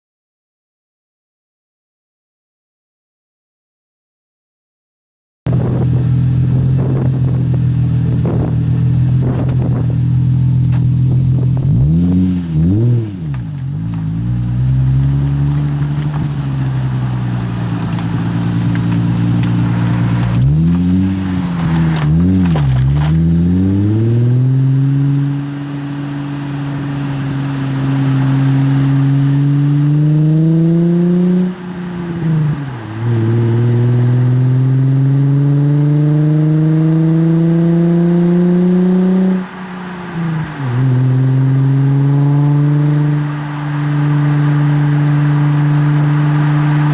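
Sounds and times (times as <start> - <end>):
car engine revving and accelerating: 5.5 - 46.9.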